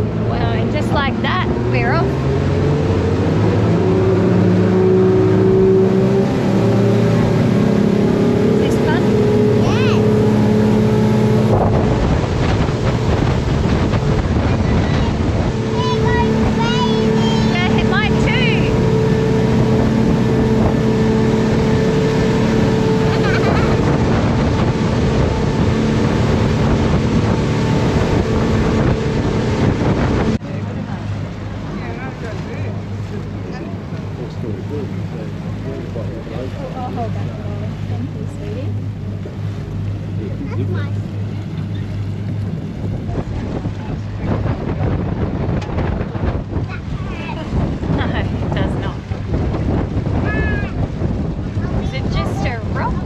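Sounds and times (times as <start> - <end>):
jet boat engine running: 0.0 - 53.0
rush of wind and water: 0.0 - 53.0.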